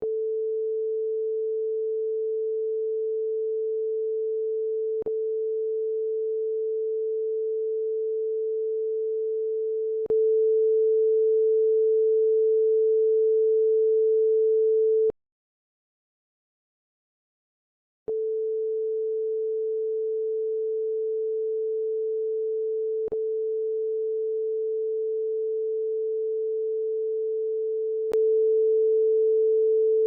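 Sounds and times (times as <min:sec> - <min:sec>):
sine test tone: 0:00.0 - 0:15.1, 0:18.1 - 0:30.0.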